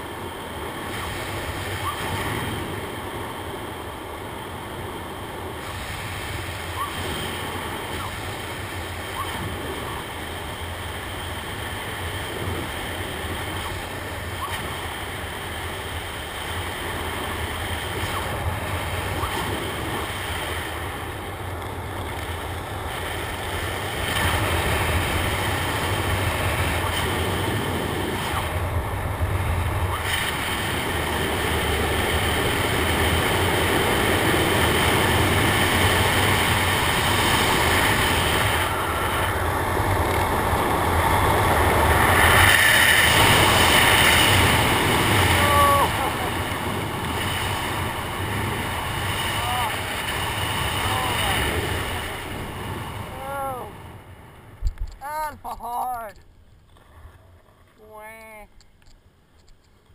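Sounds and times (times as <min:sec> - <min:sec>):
wind rushing over microphone: 0:00.0 - 0:55.3.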